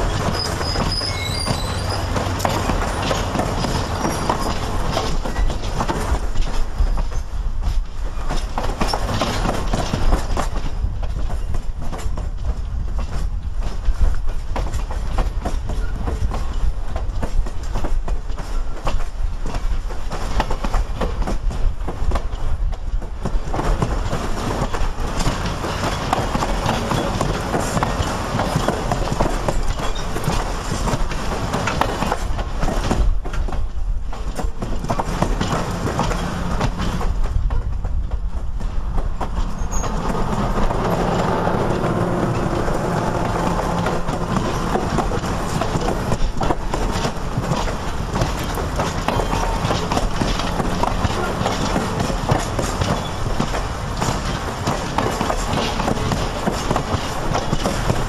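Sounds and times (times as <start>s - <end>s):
train rumble: 0.0s - 58.0s
wheels clicking over rail joints: 0.0s - 58.0s.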